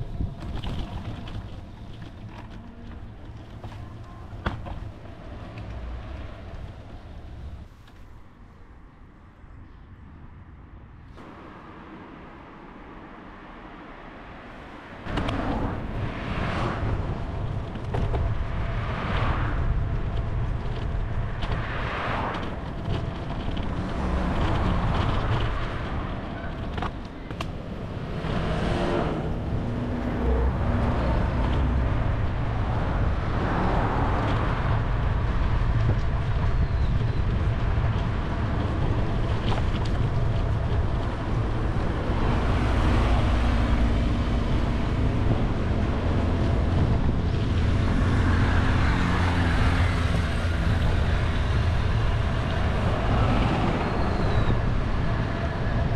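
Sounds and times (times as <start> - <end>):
cars passing: 0.0 - 55.9
wind rumble on microphone: 0.0 - 55.9.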